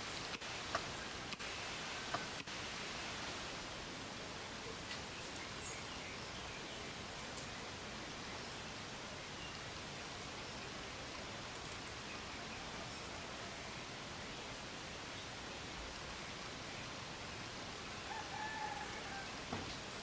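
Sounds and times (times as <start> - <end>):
outdoor hiss-like rush: 0.0 - 20.0.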